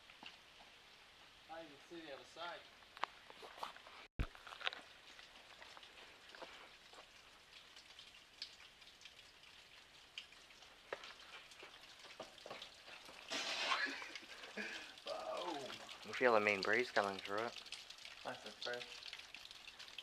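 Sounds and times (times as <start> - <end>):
faint water drips: 0.0 - 20.0.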